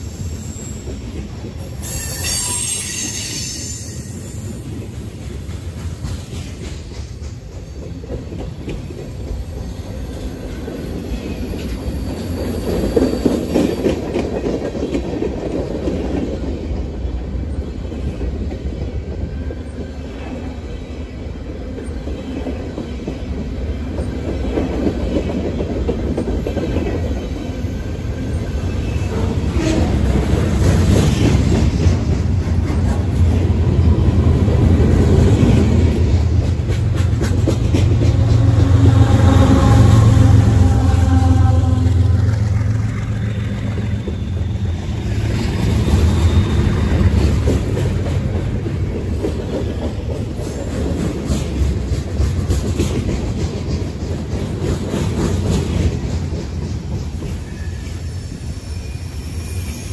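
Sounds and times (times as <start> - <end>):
freight train wheels clacking: 0.0 - 59.9.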